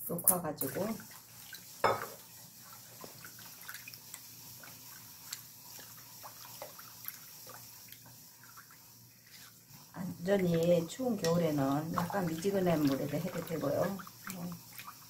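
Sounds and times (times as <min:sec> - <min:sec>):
water sloshing in a metal bowl: 0:00.1 - 0:15.0.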